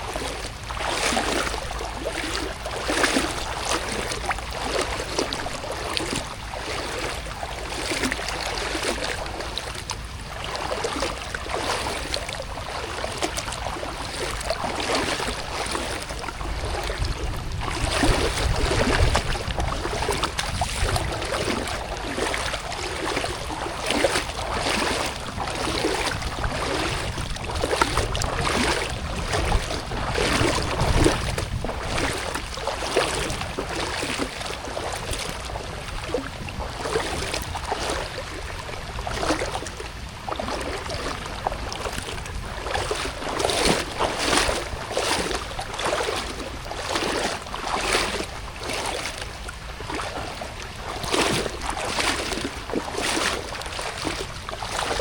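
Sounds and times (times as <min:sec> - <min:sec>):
footsteps splashing in water: 0:00.0 - 0:55.0
wind rumble on microphone: 0:00.0 - 0:55.0.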